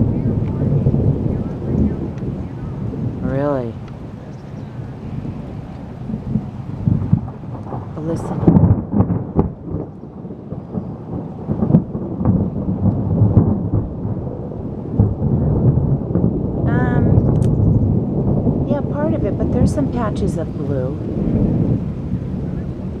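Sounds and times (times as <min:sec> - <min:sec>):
thunder rolling and crackling: 0:00.0 - 0:23.0.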